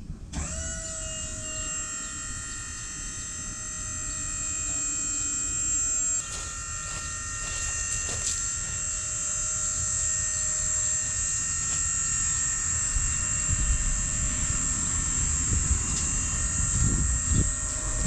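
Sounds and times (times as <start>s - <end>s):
motor-driven machine whining: 0.3s - 18.0s.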